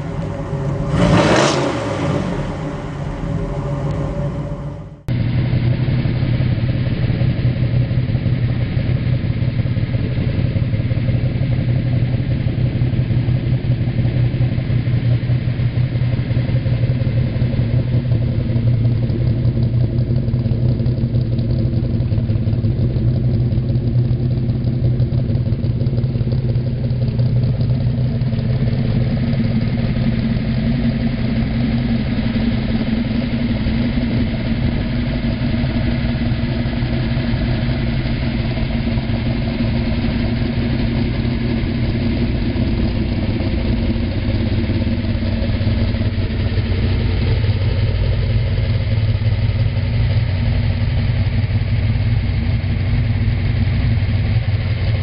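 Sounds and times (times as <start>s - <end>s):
pickup truck engine idling: 0.0s - 55.0s.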